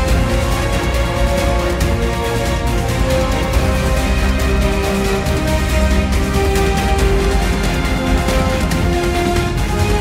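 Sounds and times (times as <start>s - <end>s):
background music with held melody: 0.0s - 10.0s
steady low bass: 0.0s - 10.0s.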